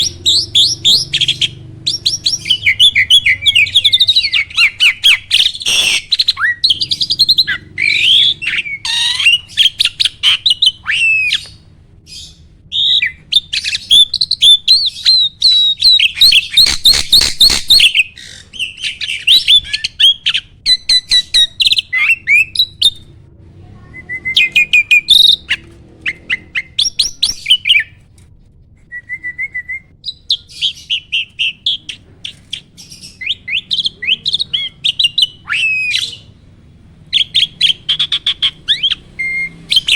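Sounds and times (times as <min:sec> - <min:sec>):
starling singing: 0:00.0 - 0:23.2, 0:24.0 - 0:28.0, 0:29.1 - 0:39.9.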